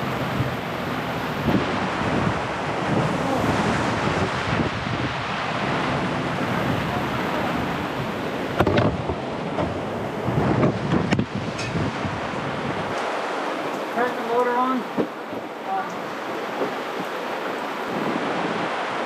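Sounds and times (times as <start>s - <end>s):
rough water: 0.0s - 19.0s
storm wind gusting across microphone: 0.0s - 19.0s.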